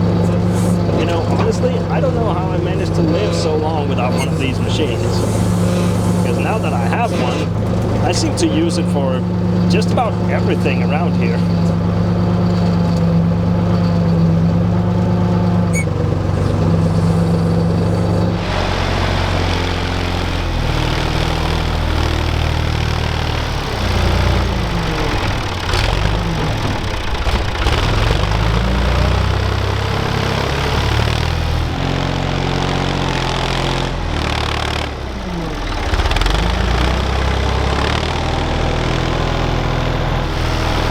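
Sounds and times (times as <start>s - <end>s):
earth-moving machine engine: 0.0s - 40.9s.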